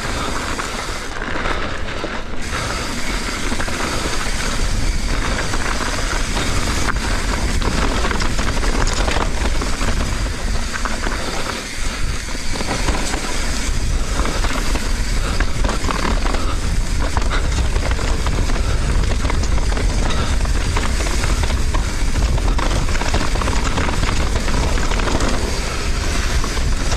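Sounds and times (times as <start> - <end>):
bike clicks and rattles: 0.0 - 26.9
tyres on dirt and rock: 0.0 - 26.9
wind rumbling on microphone: 0.0 - 26.9.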